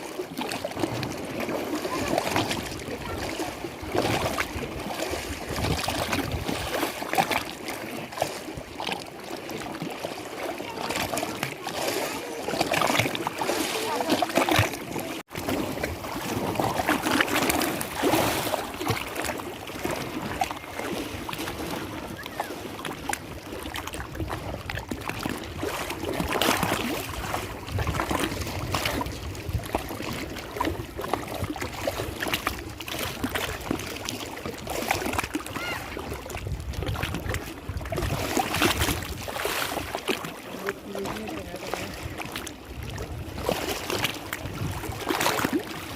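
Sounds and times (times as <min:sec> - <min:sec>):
lake water lapping and splashing: 0:00.0 - 0:45.9.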